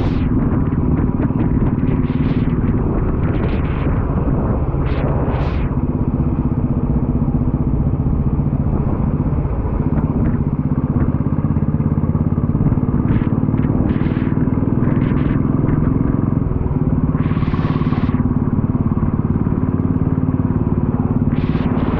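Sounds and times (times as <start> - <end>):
motorcycle engine running: 0.0 - 21.9
wind and road noise: 0.0 - 21.9.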